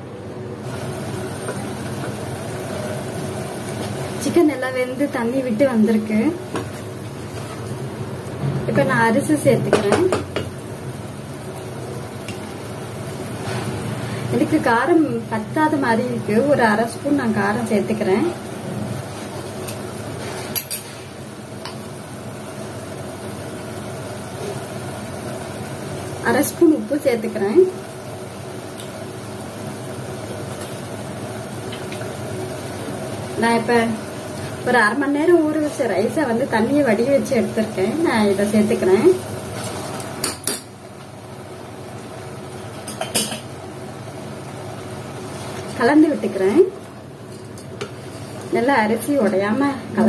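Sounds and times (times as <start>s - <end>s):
mechanical hum: 0.0s - 50.0s.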